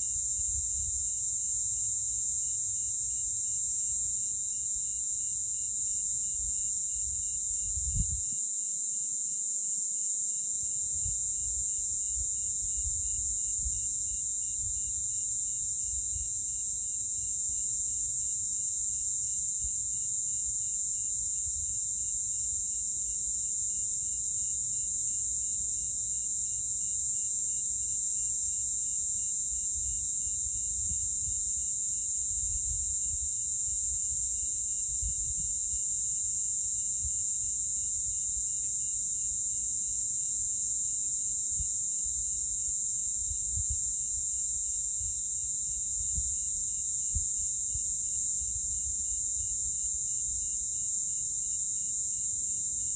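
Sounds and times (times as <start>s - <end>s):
cicadas buzzing: 0.0s - 8.3s, 10.7s - 52.9s
pulsing insect trill: 0.0s - 52.9s.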